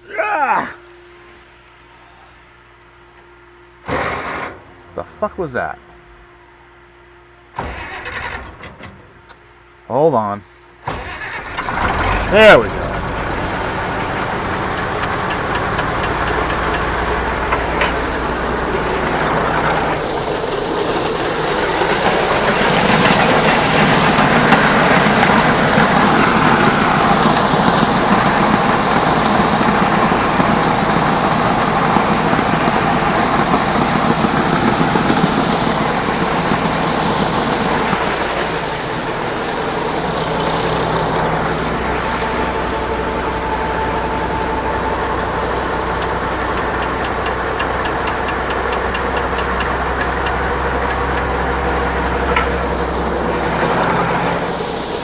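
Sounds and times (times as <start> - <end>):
farm machine engine running: 3.8 - 6.2, 7.5 - 9.4, 10.9 - 55.0
rattling mechanical clatter: 7.6 - 9.3, 10.9 - 54.2.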